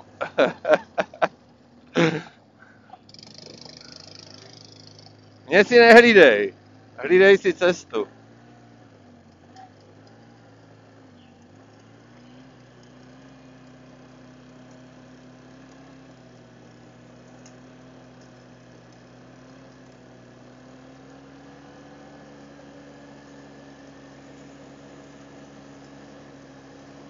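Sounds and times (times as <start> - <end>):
muffled quad bike engine: 0.0 - 27.0.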